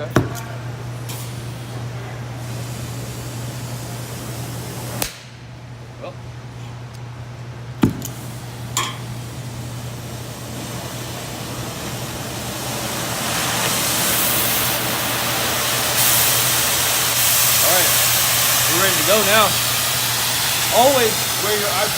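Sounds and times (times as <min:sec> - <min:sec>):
gas torch hissing: 0:00.7 - 0:05.3, 0:08.0 - 0:21.9.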